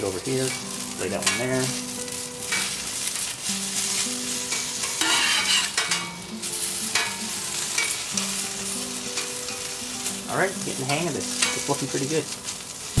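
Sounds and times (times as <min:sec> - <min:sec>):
food sizzling on a griddle: 0:00.0 - 0:13.0
tongs turning dumplings: 0:00.0 - 0:13.0.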